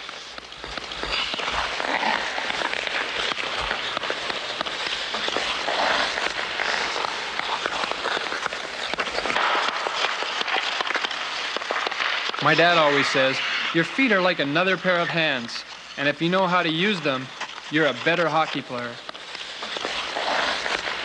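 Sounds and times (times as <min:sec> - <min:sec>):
puck clicks and knocks: 0:00.0 - 0:13.3, 0:17.4 - 0:21.0
skate blades scraping ice: 0:00.0 - 0:21.0.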